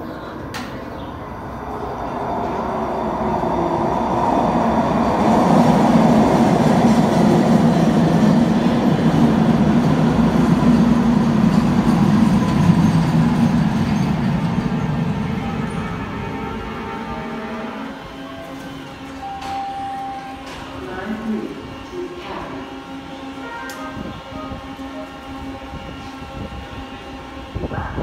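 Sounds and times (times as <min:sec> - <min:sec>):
train rolling past: 0:00.0 - 0:28.0.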